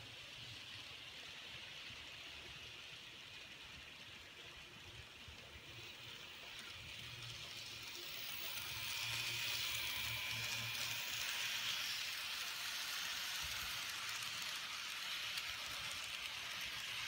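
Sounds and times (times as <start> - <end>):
model train wheels hissing on rail: 0.0 - 17.0.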